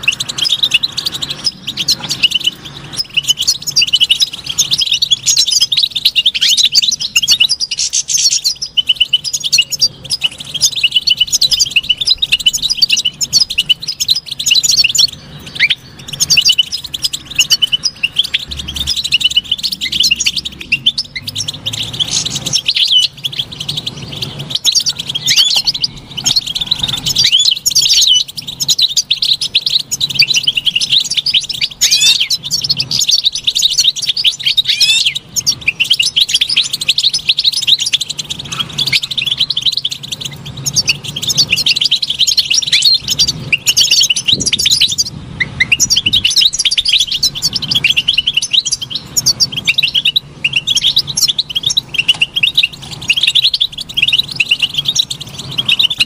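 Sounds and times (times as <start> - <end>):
bird twittering and trilling: 0.0 - 56.0.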